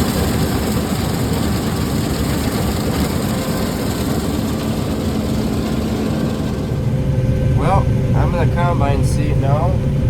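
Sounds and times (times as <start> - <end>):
combine harvester running: 0.0 - 10.0
steady low hum: 0.0 - 10.0.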